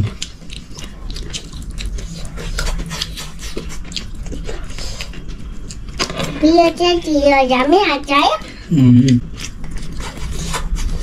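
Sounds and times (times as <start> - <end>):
person chewing food: 0.0 - 6.4, 8.4 - 11.0.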